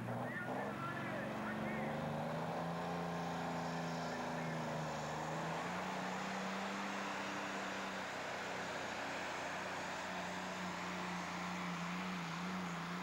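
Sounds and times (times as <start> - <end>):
tractor engine under heavy load: 0.0 - 13.0.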